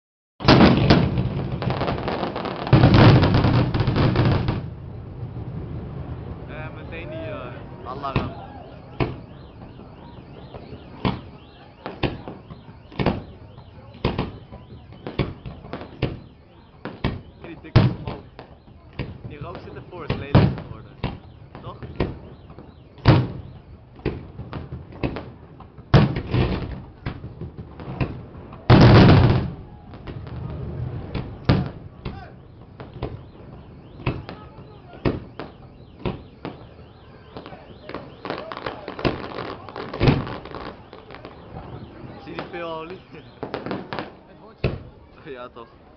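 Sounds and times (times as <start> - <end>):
fireworks bursts: 0.4 - 45.9
fireworks crackling: 0.4 - 45.9.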